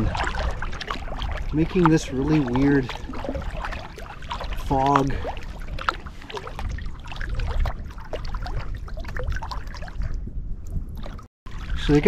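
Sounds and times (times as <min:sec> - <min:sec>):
paddle splashing water: 0:00.0 - 0:10.2, 0:10.9 - 0:12.0.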